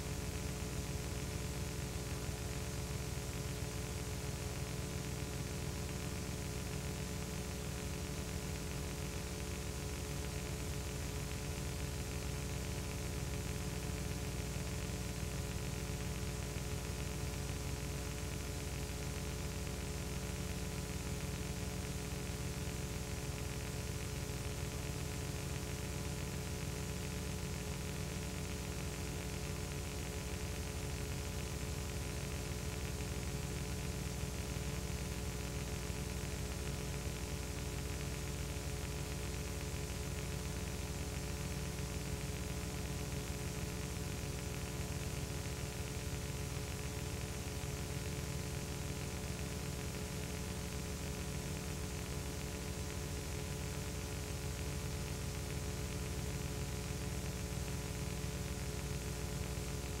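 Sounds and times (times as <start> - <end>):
electrical hum with hiss: 0.0 - 60.0.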